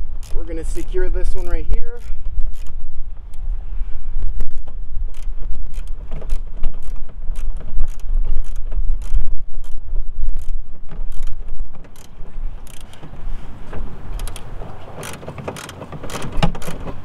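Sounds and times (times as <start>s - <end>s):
hand ratchet clicking: 0.0s - 0.8s, 2.0s - 3.4s, 4.5s - 13.1s, 14.2s - 17.0s
low rumble: 0.0s - 15.0s.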